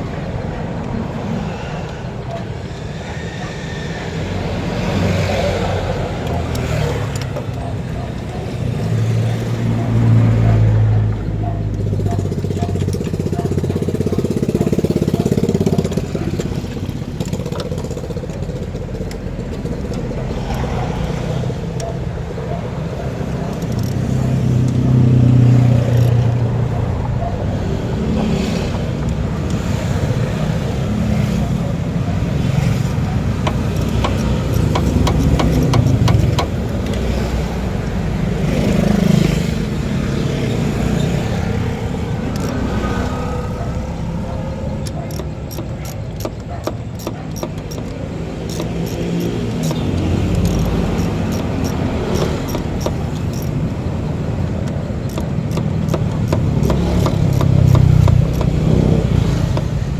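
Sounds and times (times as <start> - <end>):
vehicle engines running: 0.0 - 59.9
rapid sharp clicks: 5.3 - 27.4, 28.5 - 39.8, 40.4 - 59.9.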